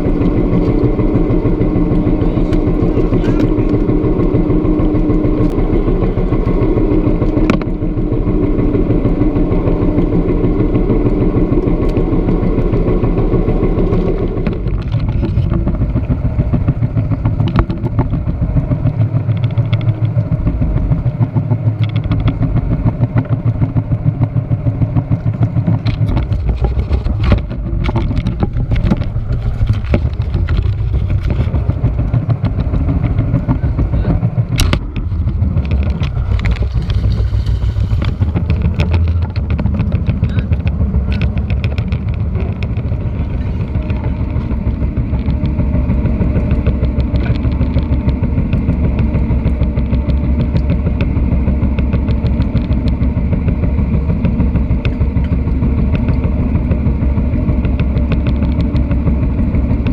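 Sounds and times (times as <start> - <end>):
boat engine running: 0.0 - 59.9
scattered knocks: 11.6 - 59.9.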